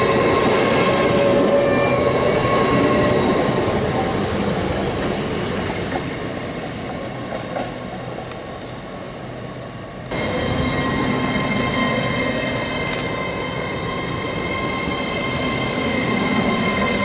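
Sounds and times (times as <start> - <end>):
train rolling on track: 0.0 - 17.0.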